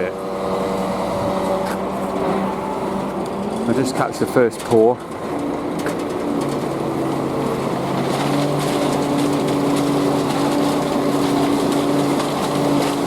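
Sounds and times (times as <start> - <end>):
concrete mixer lorry engine running: 0.0 - 13.0.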